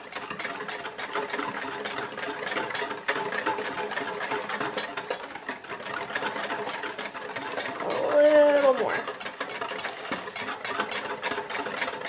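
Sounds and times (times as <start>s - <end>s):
whisk beating in metal bowl: 0.0s - 12.0s.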